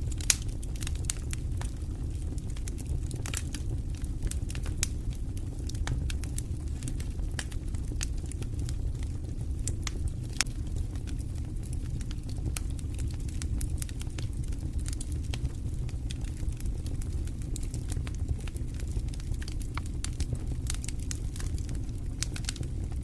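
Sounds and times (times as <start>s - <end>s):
low rumble of burning: 0.0s - 23.0s
wood fire crackling and popping: 0.0s - 23.0s.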